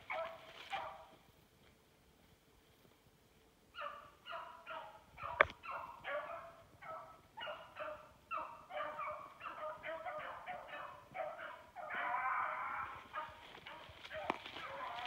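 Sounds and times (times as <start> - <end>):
hound baying: 0.0 - 1.2, 3.8 - 15.0.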